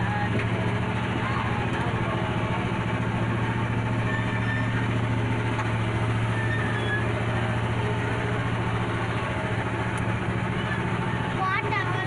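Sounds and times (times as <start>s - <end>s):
train engine droning: 0.0s - 12.0s.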